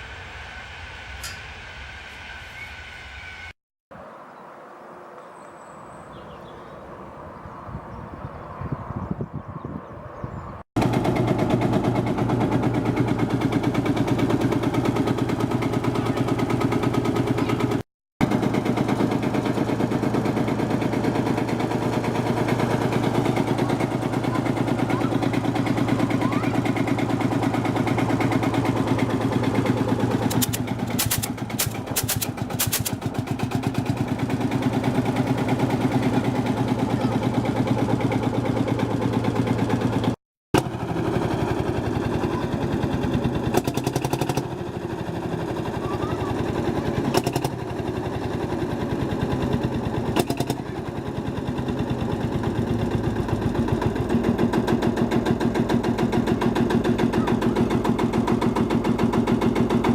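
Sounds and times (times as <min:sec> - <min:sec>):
tractor diesel engine running: 0:10.2 - 0:59.9.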